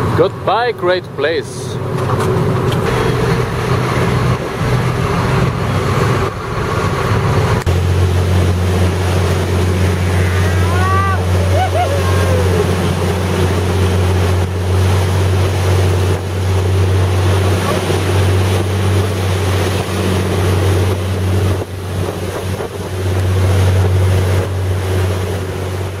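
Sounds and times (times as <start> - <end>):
churning wake spray: 0.0 - 26.0
speedboat motor droning: 0.0 - 26.0
wind buffeting microphone: 1.7 - 26.0.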